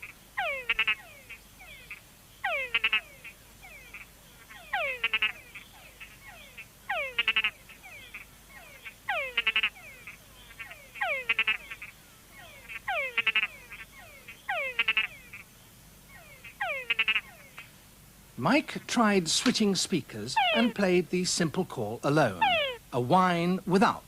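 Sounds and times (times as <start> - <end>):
frogs calling whine and chucks: 0.0 - 17.9, 20.1 - 21.1, 22.2 - 23.0.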